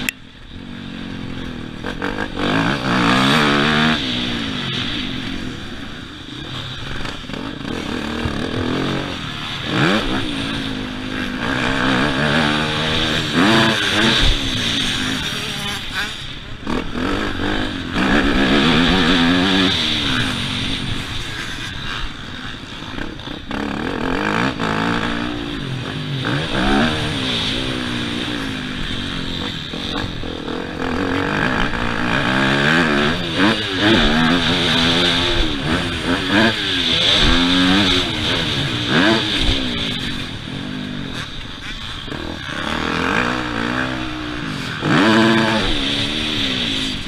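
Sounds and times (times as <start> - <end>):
motocross bike engine revving: 0.0 - 47.0.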